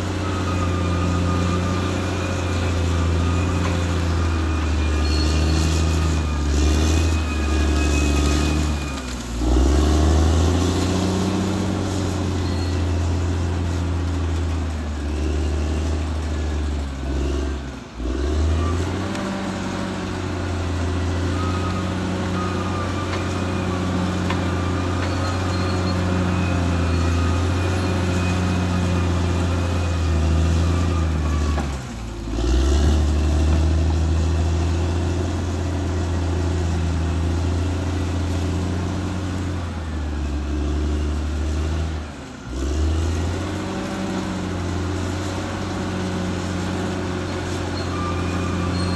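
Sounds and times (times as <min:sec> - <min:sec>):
high wavering squeals: 0:00.0 - 0:17.6, 0:18.3 - 0:41.8, 0:43.1 - 0:48.9
bulldozer diesel engine droning: 0:00.0 - 0:48.9.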